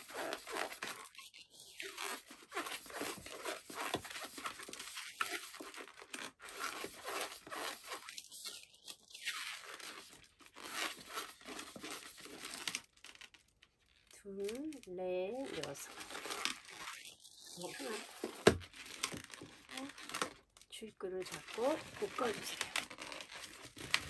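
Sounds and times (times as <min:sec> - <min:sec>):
latex balloon squeaking: 0:00.0 - 0:20.4, 0:21.2 - 0:24.0.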